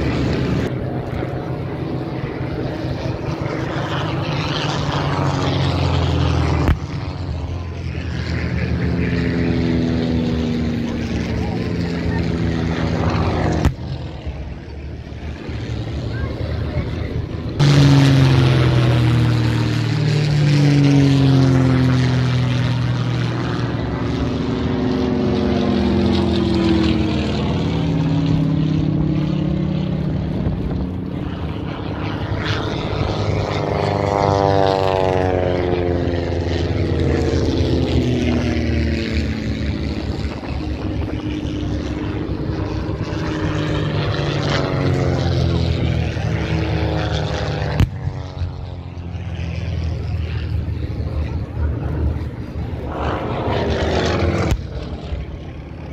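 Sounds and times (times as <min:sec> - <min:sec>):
propeller aircraft flying past: 0:00.0 - 0:55.9.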